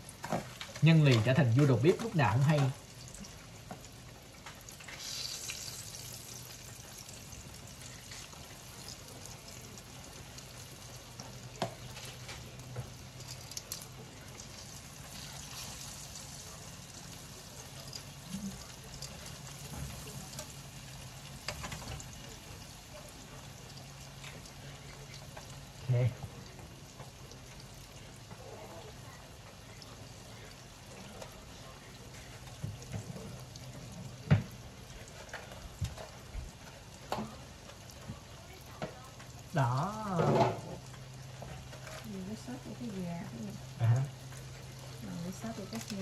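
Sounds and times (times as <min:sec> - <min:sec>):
chicken frying in oil: 0:00.0 - 0:46.0.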